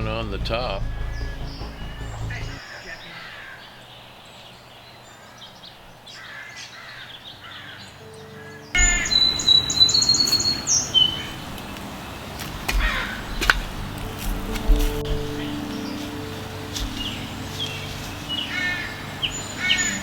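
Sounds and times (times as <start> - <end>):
birds calling and chirping: 0.0 - 20.0.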